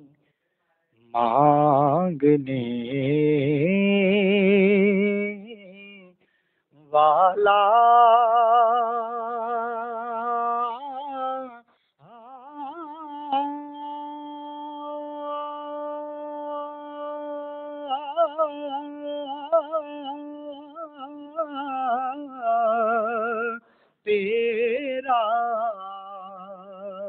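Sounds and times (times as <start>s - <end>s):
person singing unaccompanied: 1.1s - 6.2s, 6.8s - 27.0s.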